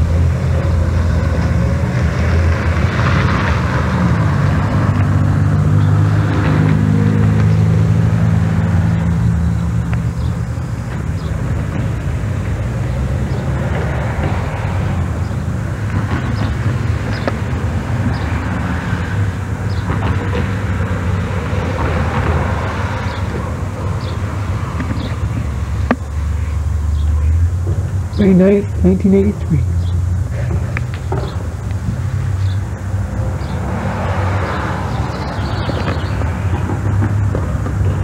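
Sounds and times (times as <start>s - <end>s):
car engine passing: 0.0s - 38.0s.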